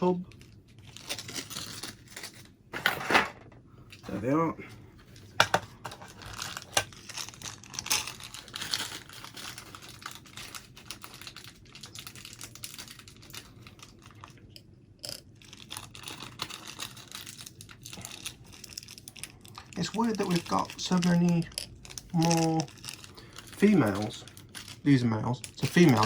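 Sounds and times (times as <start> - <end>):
metal connectors rattling and clicking: 5.1 - 26.0.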